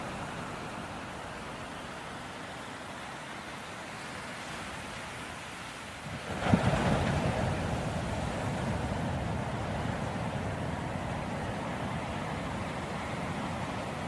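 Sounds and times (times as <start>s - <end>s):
ocean surf: 0.0s - 14.0s.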